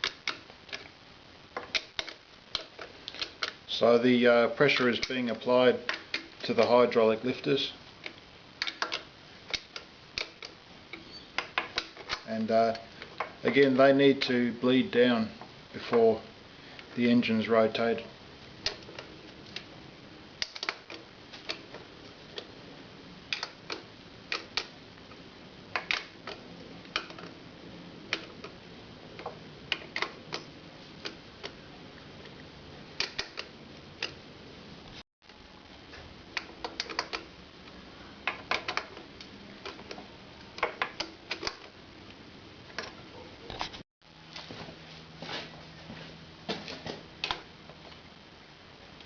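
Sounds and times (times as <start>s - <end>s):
steady faint hiss: 0.0s - 49.0s.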